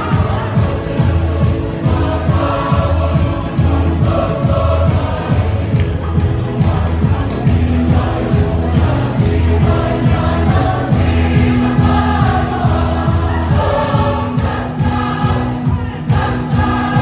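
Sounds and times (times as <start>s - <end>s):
amplified band accompaniment: 0.0s - 17.0s
choir singing: 0.0s - 17.0s.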